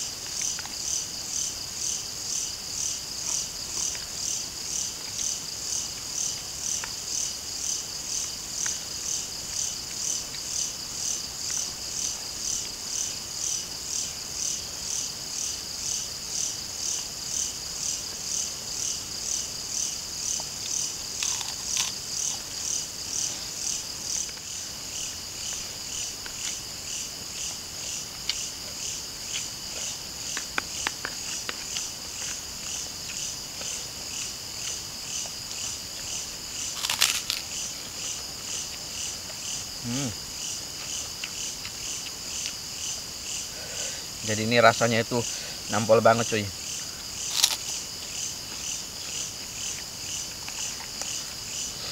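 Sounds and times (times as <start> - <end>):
insects chirping: 0.0 - 51.9.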